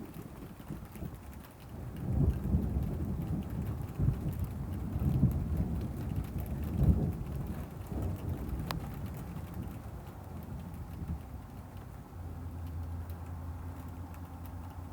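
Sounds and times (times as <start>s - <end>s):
faint rain: 0.0s - 14.9s.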